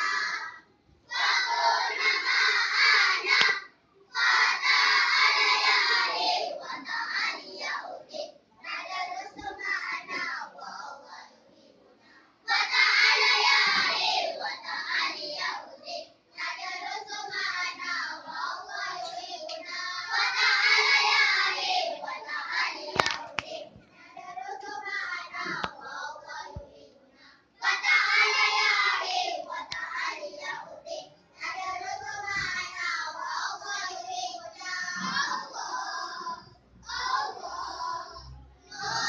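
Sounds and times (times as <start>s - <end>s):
children singing together: 0.0s - 39.0s.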